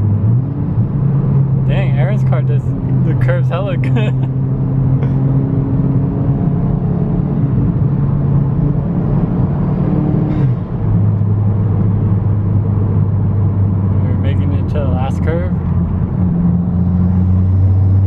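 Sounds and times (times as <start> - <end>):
car engine droning: 0.0 - 18.0
road noise inside car: 0.0 - 18.0.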